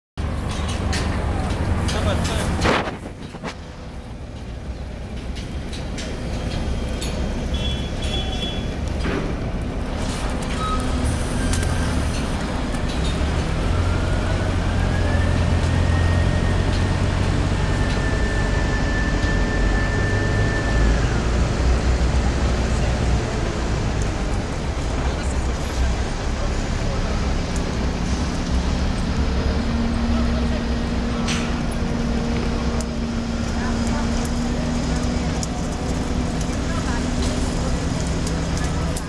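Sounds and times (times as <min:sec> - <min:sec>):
heavy motor vehicle: 0:00.2 - 0:39.0
street traffic rumbling: 0:00.2 - 0:39.0.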